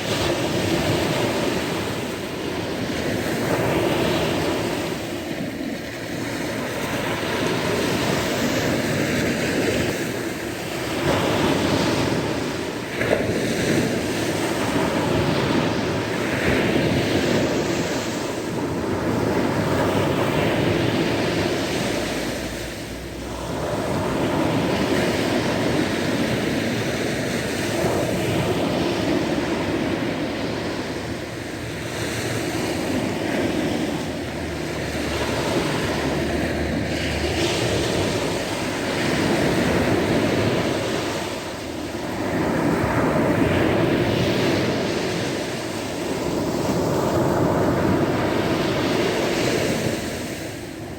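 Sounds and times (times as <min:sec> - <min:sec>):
sea waves washing onto shore: 0:00.0 - 0:50.9.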